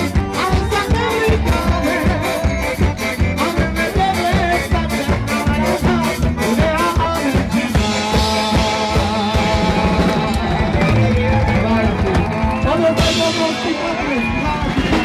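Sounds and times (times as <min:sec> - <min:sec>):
acoustic guitar: 0:00.0 - 0:14.8
drum kit: 0:00.0 - 0:15.0
electronic keyboard: 0:00.0 - 0:15.0
man singing into a microphone: 0:00.0 - 0:15.0.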